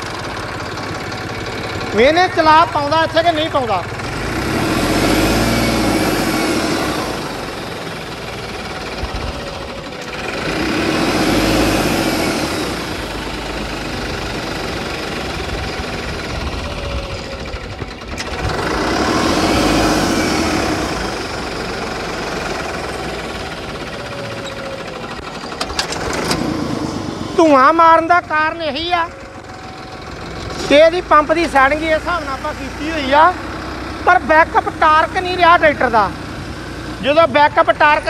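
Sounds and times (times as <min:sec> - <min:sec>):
tractor diesel engine labouring: 0:00.0 - 0:38.0.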